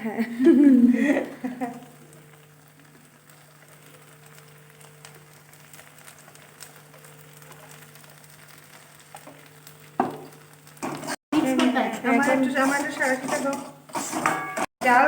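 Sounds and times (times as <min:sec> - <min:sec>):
food sizzling and crackling: 0:00.0 - 0:15.0.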